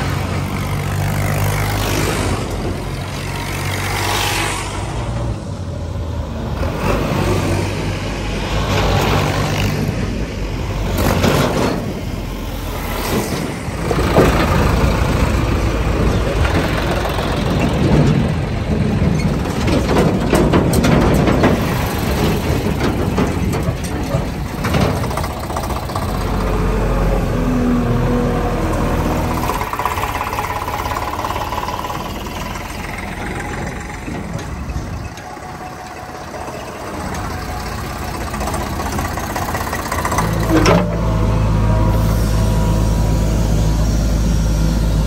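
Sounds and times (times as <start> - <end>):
backhoe loader engine running: 0.0 - 45.0
tractor passing by: 0.0 - 45.0.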